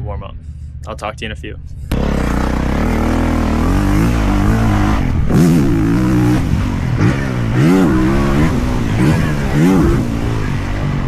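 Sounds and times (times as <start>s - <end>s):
motocross bike engine revving: 1.9s - 11.0s.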